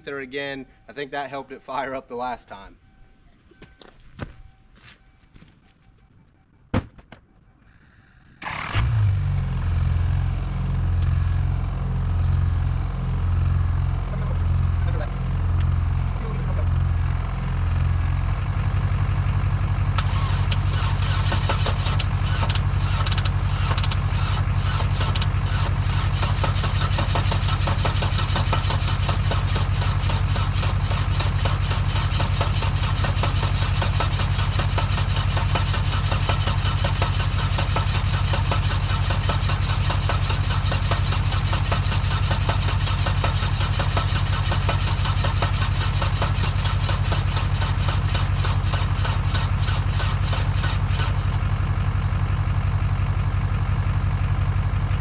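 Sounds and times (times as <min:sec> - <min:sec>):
engine cranking on starter: 0:07.8 - 0:55.0
harsh engine clattering: 0:08.4 - 0:55.0
truck idling: 0:08.4 - 0:55.0.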